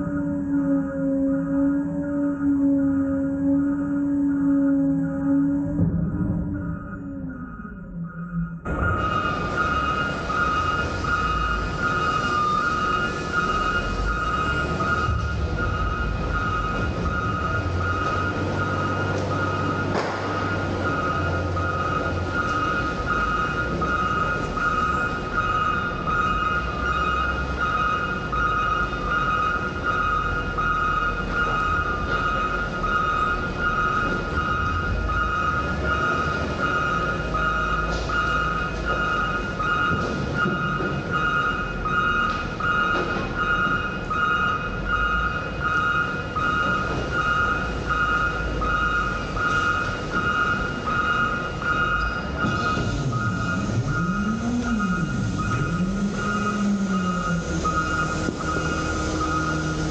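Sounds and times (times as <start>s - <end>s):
low diesel engine rumble: 0.0s - 59.9s
backup alarm beeping: 3.4s - 59.9s.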